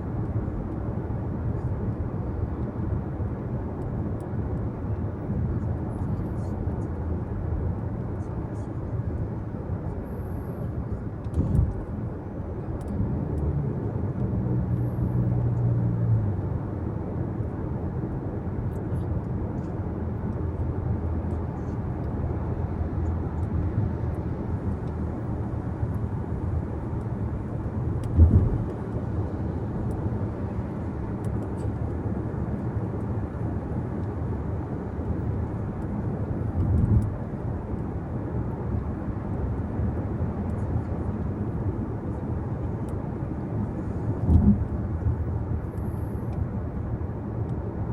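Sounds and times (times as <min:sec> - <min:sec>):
road and engine rumble in car: 0:00.0 - 0:47.9.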